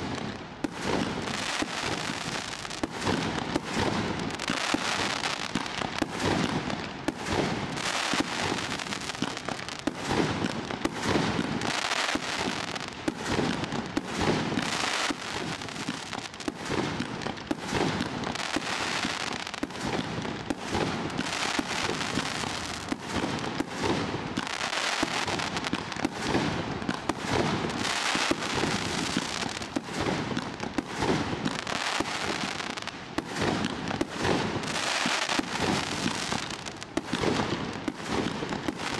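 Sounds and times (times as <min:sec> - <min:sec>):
dense crackling firework bursts: 0:00.0 - 0:38.9.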